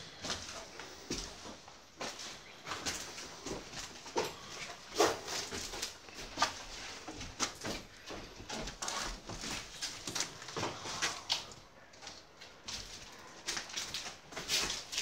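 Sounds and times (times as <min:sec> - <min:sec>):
footsteps on debris: 0:00.0 - 0:15.0.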